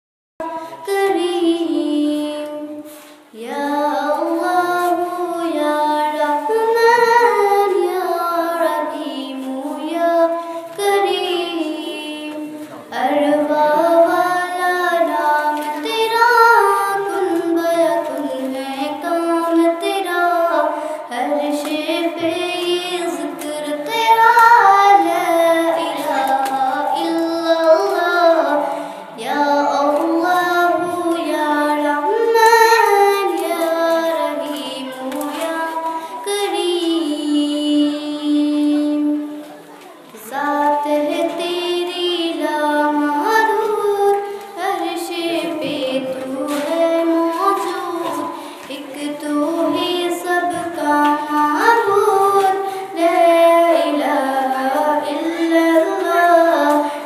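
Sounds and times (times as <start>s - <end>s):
girl singing unaccompanied: 0.4s - 57.0s.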